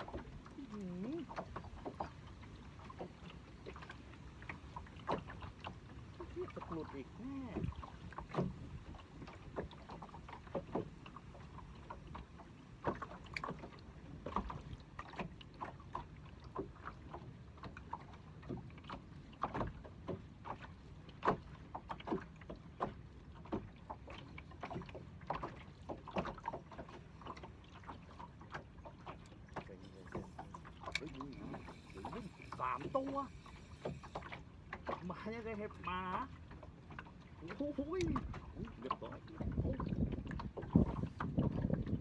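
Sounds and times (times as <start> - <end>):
knocks and clicks from boat: 0.0 - 42.0
water sloshing against hull: 0.0 - 42.0.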